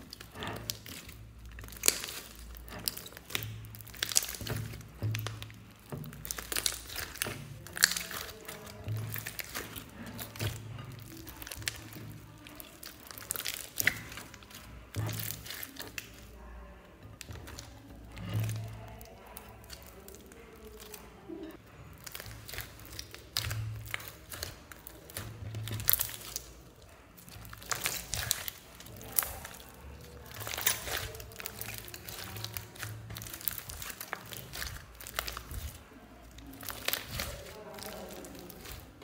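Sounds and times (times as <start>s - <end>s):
slime snapping: 0.0s - 16.3s, 22.0s - 26.6s, 27.2s - 39.0s
slime clicks and crackles: 0.0s - 39.0s
slime squelching: 0.0s - 39.0s.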